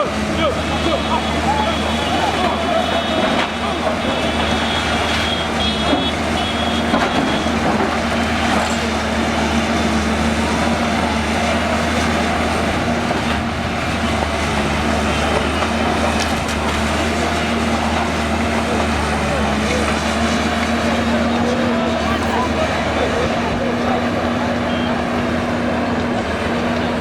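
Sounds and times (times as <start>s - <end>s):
heavy engine running: 0.0s - 27.0s
outdoor noise: 0.0s - 27.0s.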